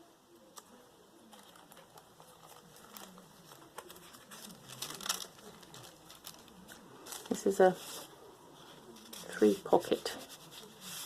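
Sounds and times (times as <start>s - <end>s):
paper pages rustling: 1.3s - 11.0s.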